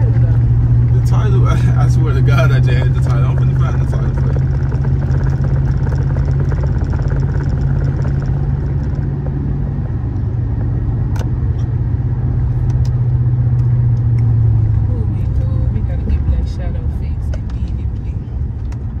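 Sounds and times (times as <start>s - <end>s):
steady low hum: 0.0s - 19.0s
truck engine and road noise: 0.0s - 19.0s.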